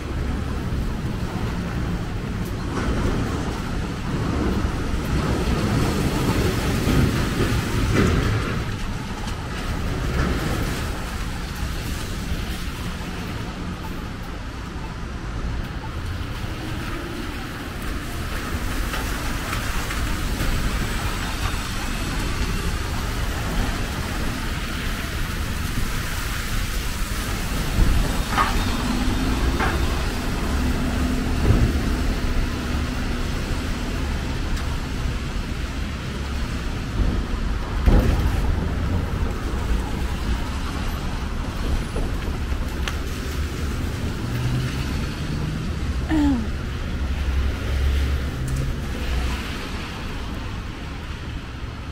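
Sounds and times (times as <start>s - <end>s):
cars passing on wet road: 0.0s - 51.9s
low traffic rumble: 0.0s - 51.9s.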